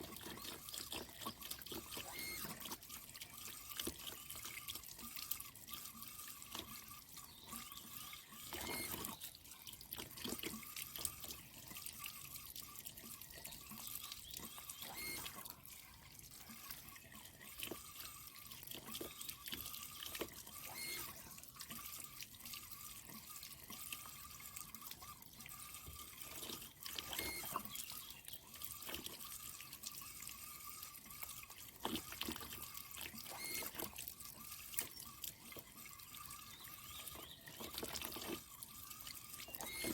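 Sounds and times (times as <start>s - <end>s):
water dripping: 0.0s - 39.9s
water running and trickling: 0.0s - 39.9s.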